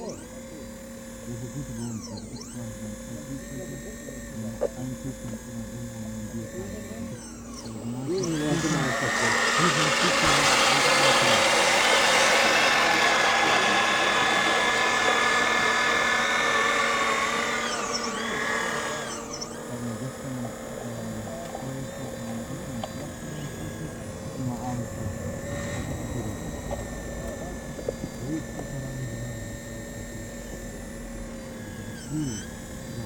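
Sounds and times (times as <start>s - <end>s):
hydraulic pump motor whining: 0.0s - 33.0s.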